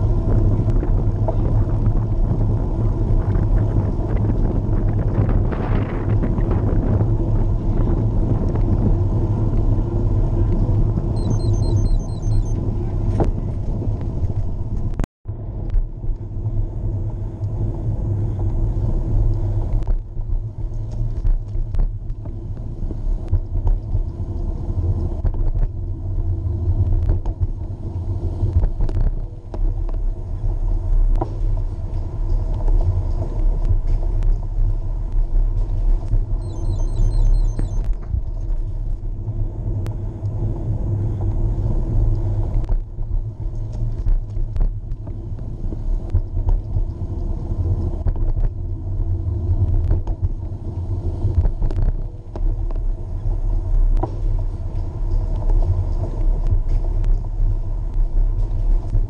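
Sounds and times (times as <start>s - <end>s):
bicycle rolling on pavement: 0.0s - 11.2s, 12.6s - 59.0s
wind noise: 0.0s - 59.0s.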